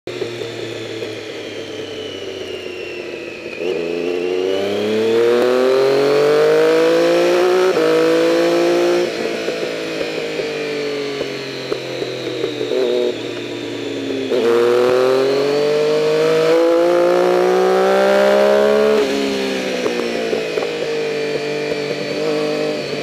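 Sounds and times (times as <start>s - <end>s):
motorcycle engine revving: 0.1s - 23.0s.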